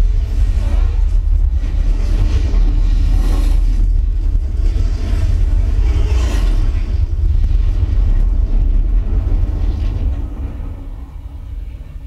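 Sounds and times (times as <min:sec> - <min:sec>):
deep explosion rumble: 0:00.0 - 0:12.0.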